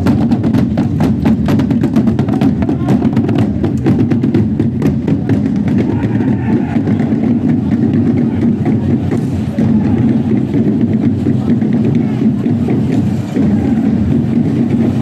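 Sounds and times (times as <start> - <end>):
procession drums beating: 0.0 - 15.0.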